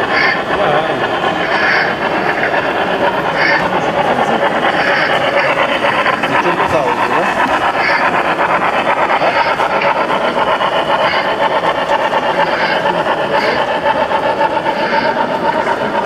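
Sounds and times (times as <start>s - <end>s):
constant hum: 0.0s - 16.0s
model train rhythmic running: 0.0s - 16.0s.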